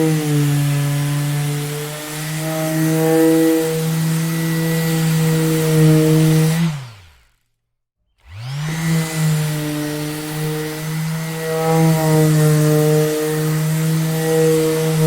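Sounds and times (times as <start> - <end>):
electric orbital sander running: 0.0 - 7.5, 8.2 - 15.0.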